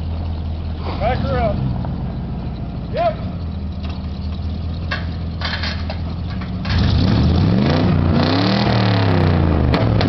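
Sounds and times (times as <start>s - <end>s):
pickup truck engine revving: 0.0s - 10.0s.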